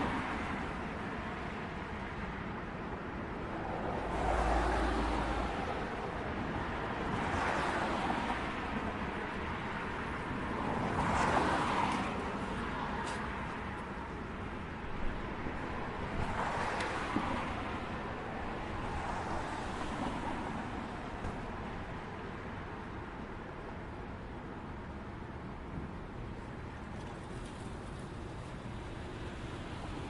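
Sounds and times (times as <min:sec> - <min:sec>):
city street traffic: 0:00.0 - 0:30.0
vehicles passing: 0:00.0 - 0:30.0.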